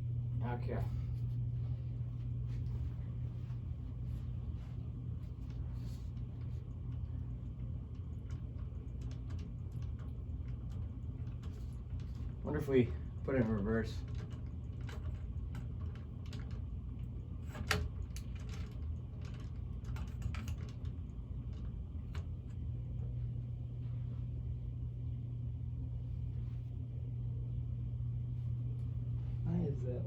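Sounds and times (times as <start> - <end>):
fan blades clicking and rattling: 0.0 - 24.7
ceiling fan motor humming: 0.0 - 30.0.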